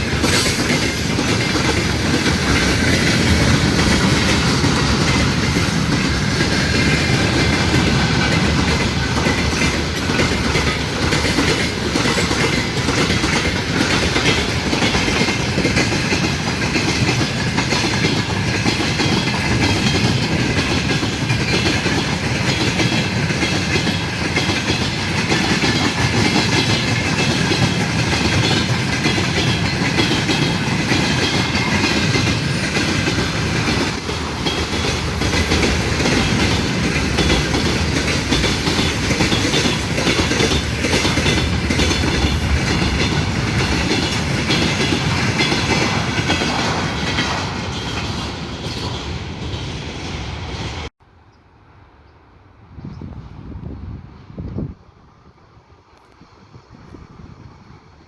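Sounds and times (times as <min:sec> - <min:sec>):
train wheels clattering over rails: 0:00.0 - 0:50.9.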